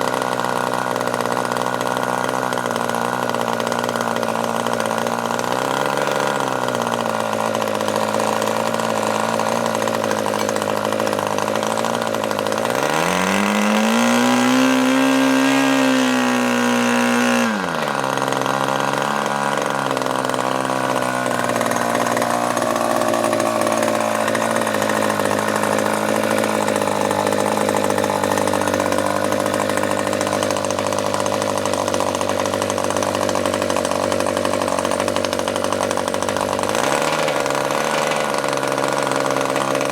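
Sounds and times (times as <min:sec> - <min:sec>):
model engine running at high revs: 0:00.0 - 0:39.9.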